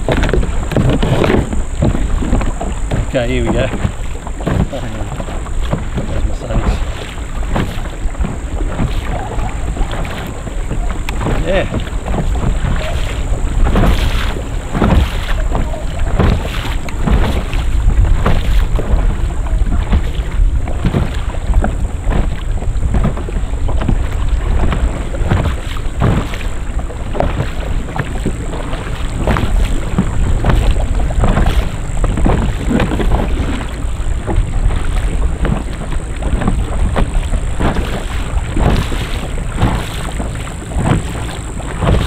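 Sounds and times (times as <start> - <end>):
water splashing against hull: 0.0 - 42.0
wind buffeting microphone: 0.0 - 42.0.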